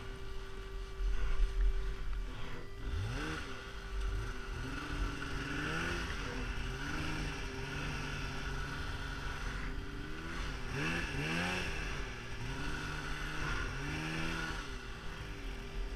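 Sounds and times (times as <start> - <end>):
snowmobile engine revving: 0.0 - 15.9.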